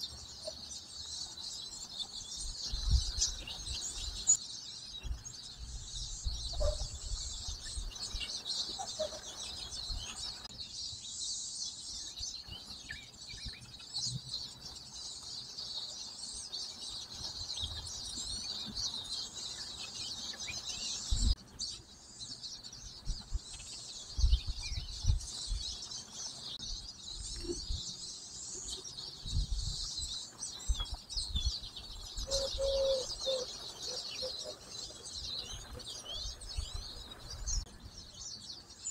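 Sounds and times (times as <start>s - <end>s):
small birds chirping chorus: 0.0s - 38.9s.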